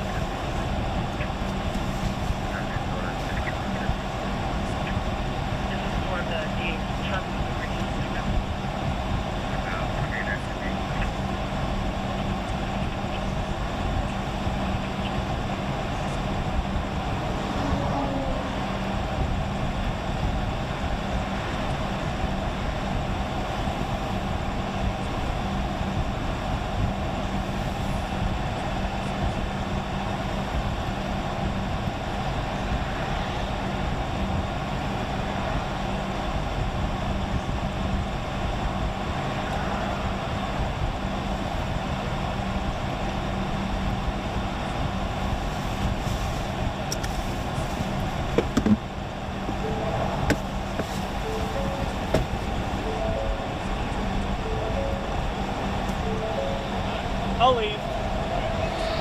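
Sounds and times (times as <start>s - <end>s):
car cabin road noise: 0.0s - 59.0s.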